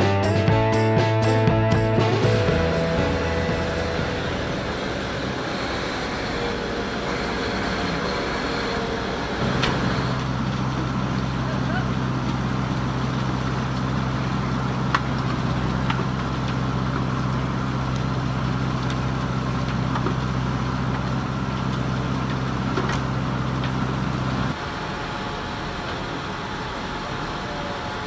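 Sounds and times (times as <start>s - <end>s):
diesel farm machinery running: 0.0s - 28.0s.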